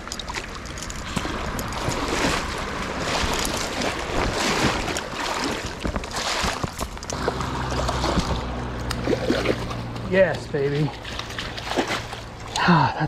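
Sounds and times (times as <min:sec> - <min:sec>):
river water splashing around legs: 0:00.0 - 0:13.0.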